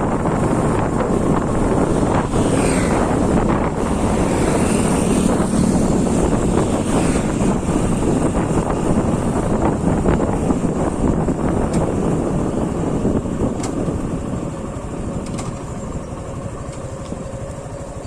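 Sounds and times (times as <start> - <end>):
wind buffeting microphone: 0.0 - 17.8
motorcycle engine: 0.0 - 18.0
road noise: 0.0 - 18.0.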